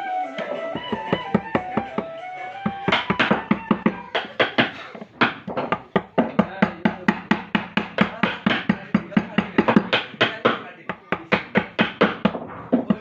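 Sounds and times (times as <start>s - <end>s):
rapid hammering on wood: 0.7s - 13.0s.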